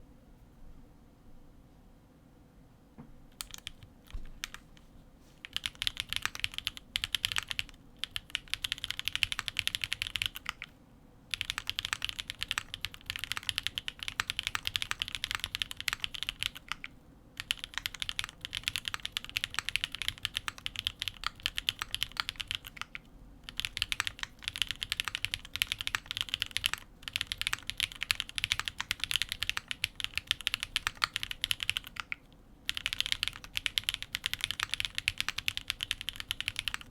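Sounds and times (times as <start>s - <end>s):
mechanical keyboard typing: 3.4s - 4.8s, 5.4s - 10.7s, 11.3s - 36.9s.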